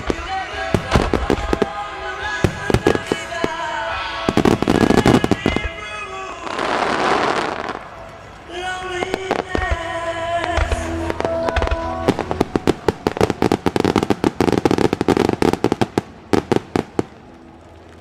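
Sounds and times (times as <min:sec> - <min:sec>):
rapid fireworks bangs: 0:00.0 - 0:07.9, 0:08.6 - 0:17.1
song held notes: 0:00.0 - 0:18.0.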